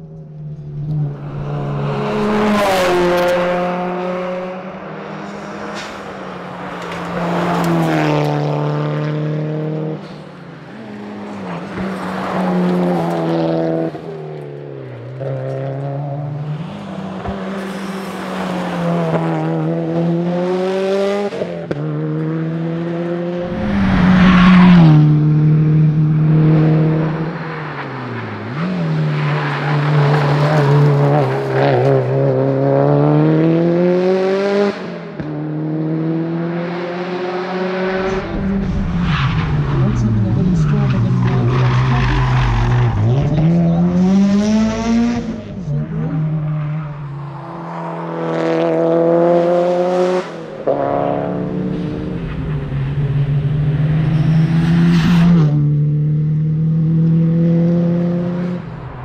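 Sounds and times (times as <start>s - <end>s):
rally car engine accelerating: 0.0s - 59.0s.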